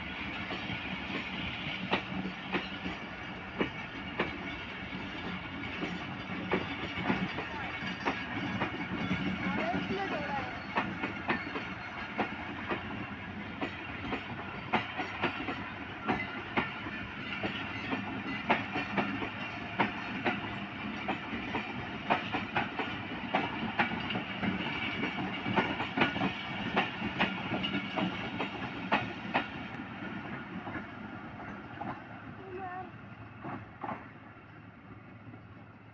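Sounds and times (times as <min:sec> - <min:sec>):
train wheels clacking over rail joints: 0:00.2 - 0:32.1, 0:33.2 - 0:34.6.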